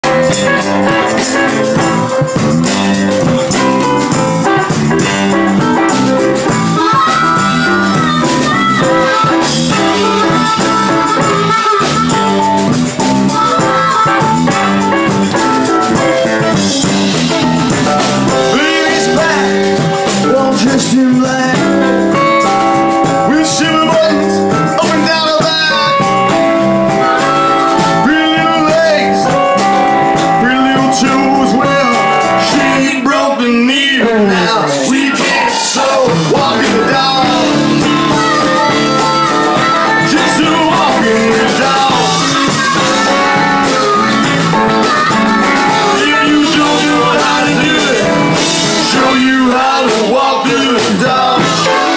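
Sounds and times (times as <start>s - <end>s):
harmonica: 0.0s - 33.0s, 34.9s - 51.9s
blues-rock band playing: 0.0s - 51.9s.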